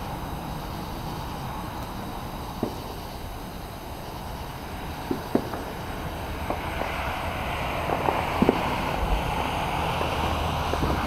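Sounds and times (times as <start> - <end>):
distant fireworks popping: 0.0 - 11.0
wind on microphone: 0.0 - 11.0.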